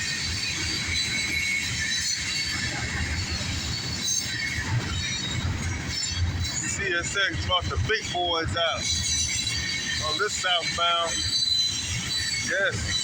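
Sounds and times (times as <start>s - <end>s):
train wheels rumbling on rail: 0.0s - 13.0s
wheels squealing: 0.0s - 13.0s.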